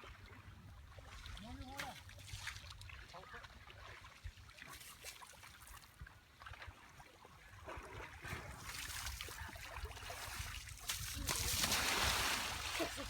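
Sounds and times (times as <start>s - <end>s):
river water splashing: 0.9s - 13.0s.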